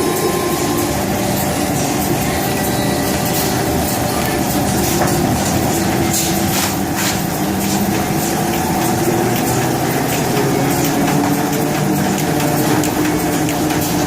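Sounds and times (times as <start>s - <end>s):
industrial machine humming: 0.0s - 14.0s.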